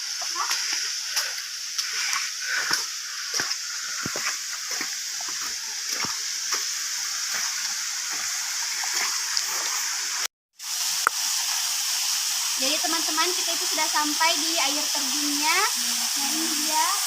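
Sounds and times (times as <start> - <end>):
rushing water hiss: 0.0 - 17.0.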